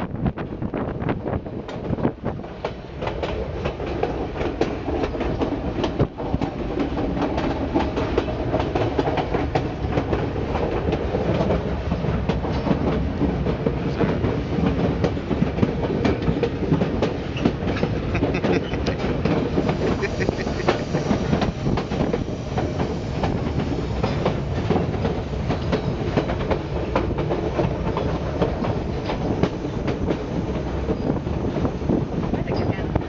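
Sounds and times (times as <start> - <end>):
train cars rumbling: 0.0 - 33.0
wheels clicking on track: 1.7 - 33.0.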